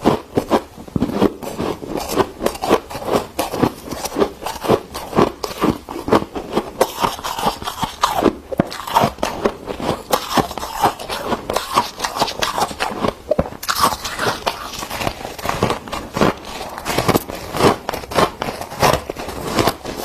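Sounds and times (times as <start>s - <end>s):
freezer frost crunching: 0.0s - 20.0s.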